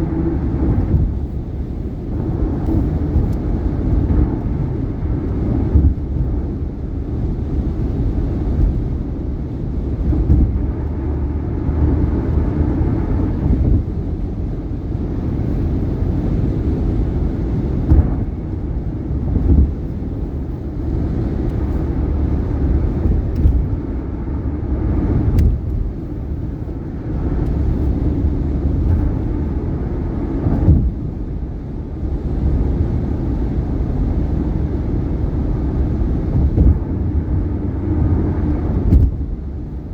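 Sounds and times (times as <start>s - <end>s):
tyre and road rumble: 0.0s - 39.9s.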